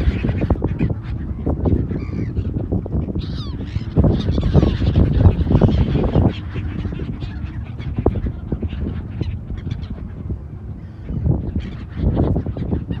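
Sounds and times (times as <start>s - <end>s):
birds calling: 0.0s - 13.0s
low rumble: 0.0s - 13.0s.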